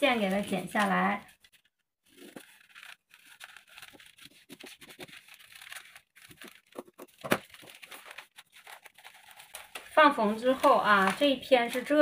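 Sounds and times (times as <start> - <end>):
paper rustling and crackling: 0.0 - 12.0
scissors snipping paper: 2.2 - 12.0.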